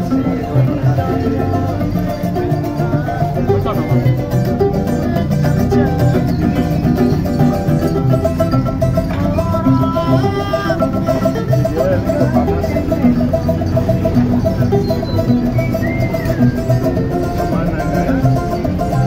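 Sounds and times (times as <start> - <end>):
acoustic guitar: 0.0 - 19.0
higher melody line: 0.0 - 19.0
low bass notes: 0.0 - 19.0
ukulele strumming: 0.0 - 19.0.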